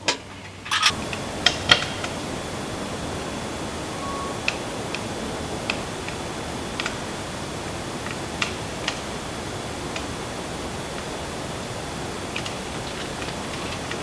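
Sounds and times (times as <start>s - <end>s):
firewood crackling in a stove: 0.0s - 14.0s
steady hiss: 0.1s - 14.0s.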